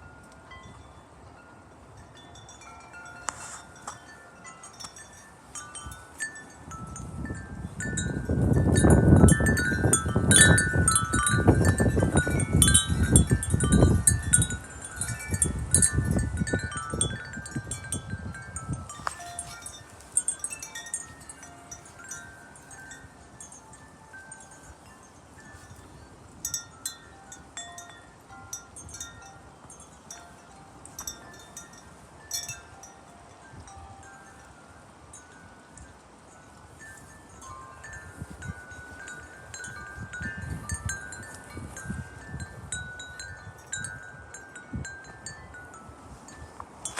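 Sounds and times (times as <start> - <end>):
wind chimes ringing: 0.0 - 46.9
wind gust rumbling on microphone: 0.0 - 46.9.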